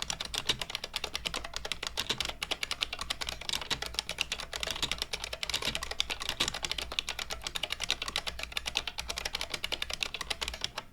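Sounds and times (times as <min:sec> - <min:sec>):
fast keyboard typing clicks: 0:00.0 - 0:10.9.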